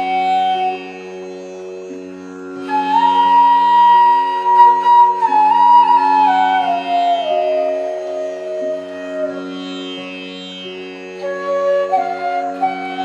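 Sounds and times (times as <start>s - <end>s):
flute melody: 0.0s - 13.0s.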